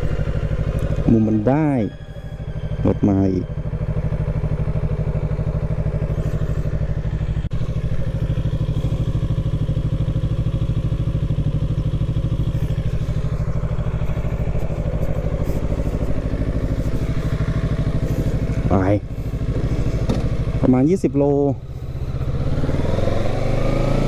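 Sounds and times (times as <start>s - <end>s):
motorcycle engine idling: 0.0s - 23.8s.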